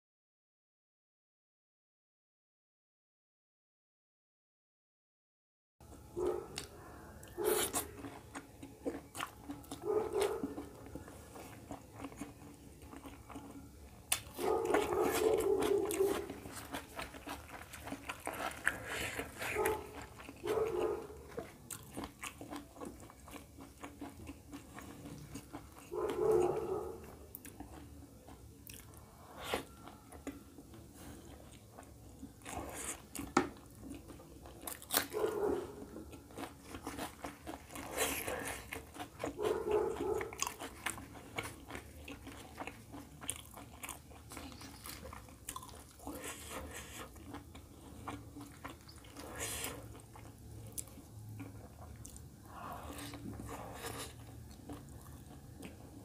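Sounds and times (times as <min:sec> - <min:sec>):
wet chewing: 0:06.2 - 0:56.0.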